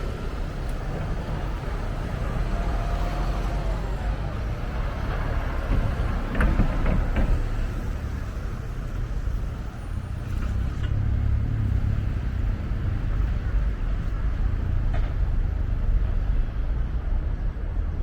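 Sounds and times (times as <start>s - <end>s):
city ambience rumble: 0.0s - 18.0s.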